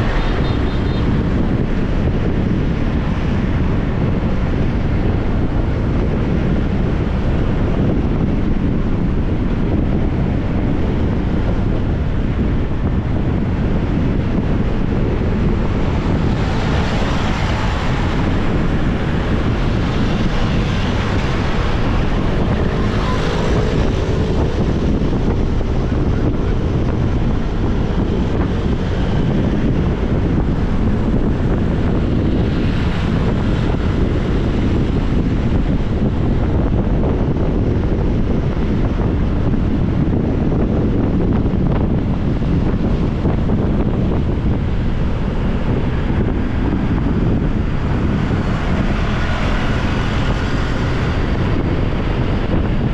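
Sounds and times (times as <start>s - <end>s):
motorbike riding: 0.0s - 52.9s
traffic: 0.0s - 52.9s
wind buffeting microphone: 0.0s - 52.9s.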